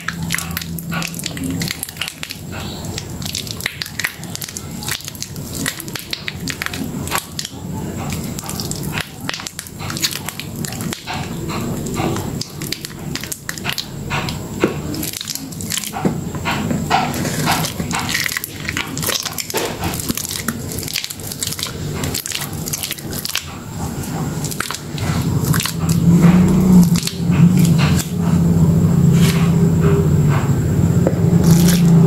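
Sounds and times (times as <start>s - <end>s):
wet soap squelching: 0.0s - 32.0s.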